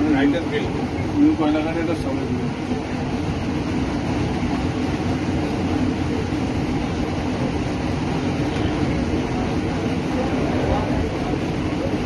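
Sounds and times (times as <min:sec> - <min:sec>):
train rumbling through tunnel: 0:00.0 - 0:12.0.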